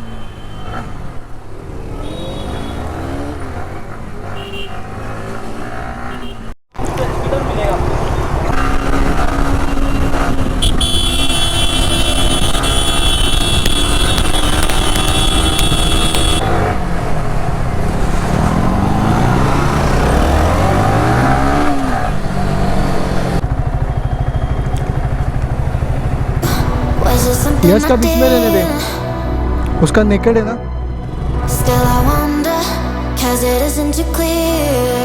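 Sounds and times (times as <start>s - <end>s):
motorcycle engine accelerating: 1.0s - 29.0s.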